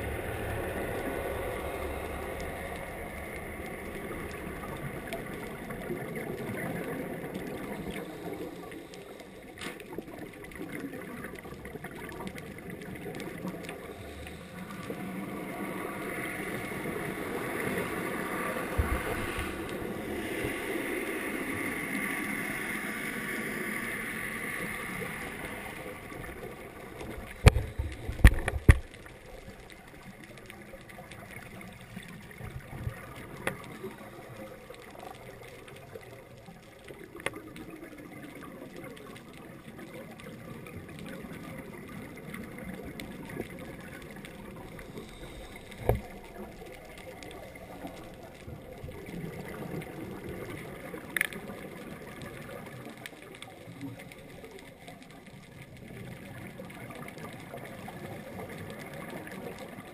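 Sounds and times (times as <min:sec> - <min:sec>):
underwater wash of noise: 0:00.0 - 0:59.9.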